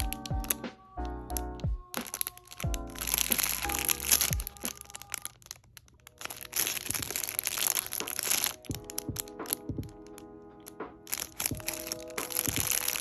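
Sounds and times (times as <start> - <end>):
plastic packaging crinkling: 0.0 - 13.0
soft background music: 0.0 - 13.0.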